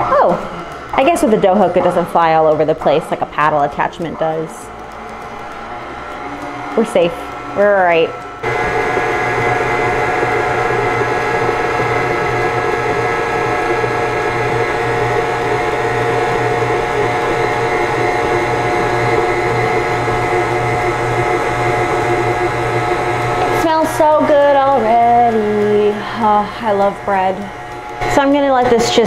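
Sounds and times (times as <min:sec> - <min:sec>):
stand mixer motor whining: 0:00.0 - 0:29.0.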